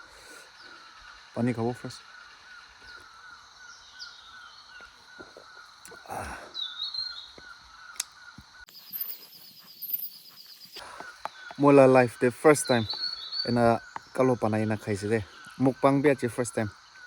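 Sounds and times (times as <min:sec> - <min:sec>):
high bird calls: 0:00.0 - 0:17.0
rhythmic insect chirping: 0:00.0 - 0:17.0
high-pitched insect trill: 0:00.5 - 0:17.0.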